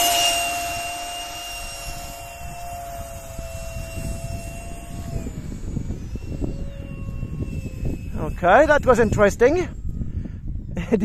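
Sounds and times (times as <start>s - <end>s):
electric ducted fans whining: 0.0s - 11.0s.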